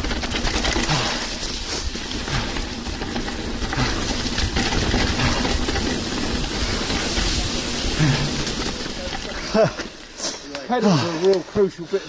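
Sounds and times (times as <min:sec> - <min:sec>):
bike rattling and clattering: 0:00.0 - 0:12.0
tyre noise on trail: 0:00.0 - 0:12.0.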